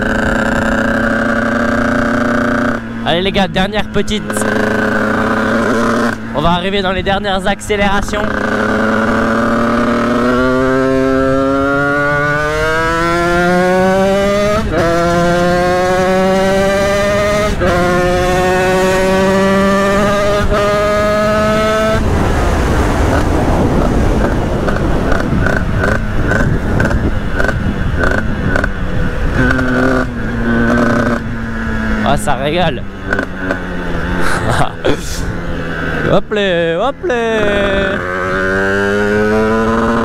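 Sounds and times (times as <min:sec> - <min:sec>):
rushing wind: 0:00.0 - 0:40.0
two-stroke engine accelerating: 0:00.0 - 0:40.0.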